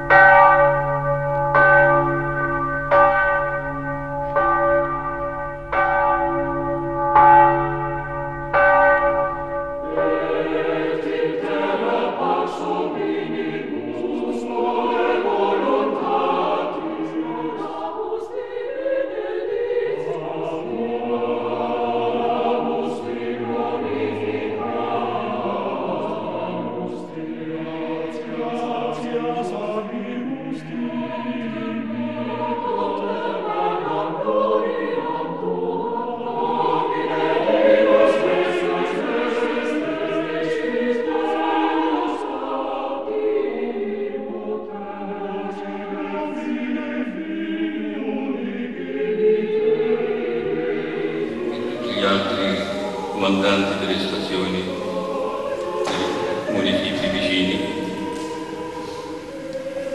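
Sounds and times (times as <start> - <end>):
church bells ringing: 0.0 - 18.5, 19.4 - 42.6, 51.1 - 59.9
choir singing: 0.0 - 59.9.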